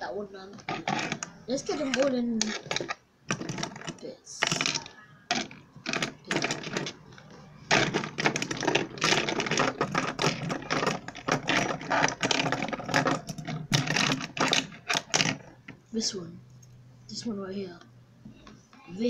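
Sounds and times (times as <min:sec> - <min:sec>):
fidget spinners clattering: 0:00.4 - 0:15.8.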